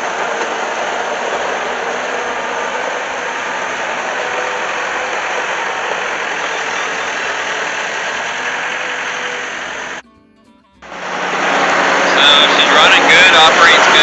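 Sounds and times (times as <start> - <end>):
diesel engine running: 0.0 - 10.0, 10.8 - 14.0.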